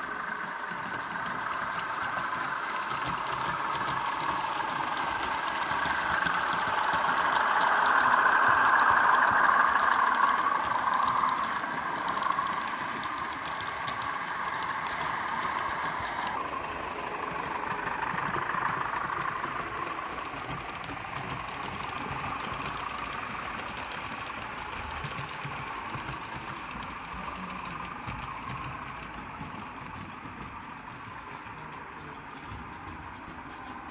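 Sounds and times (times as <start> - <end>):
model diesel locomotive engine: 0.0 - 33.9.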